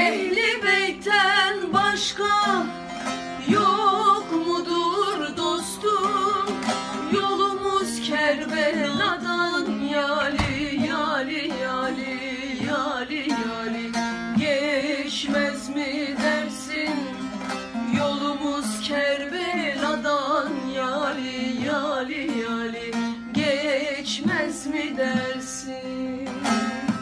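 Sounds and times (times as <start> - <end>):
plucked string instrument: 0.0 - 27.0
women singing: 0.0 - 27.0.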